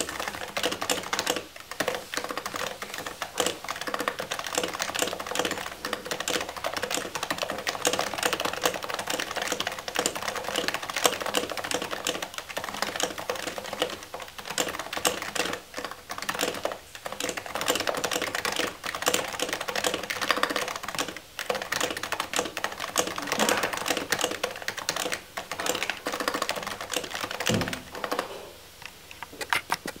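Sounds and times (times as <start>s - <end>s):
fast typing on keyboard: 0.0s - 28.3s.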